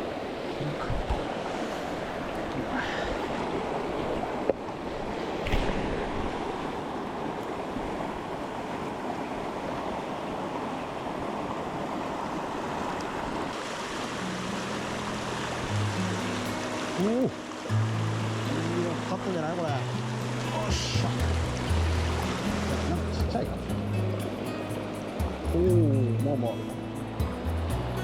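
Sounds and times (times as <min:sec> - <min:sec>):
rushing mountain stream: 0:00.0 - 0:28.0.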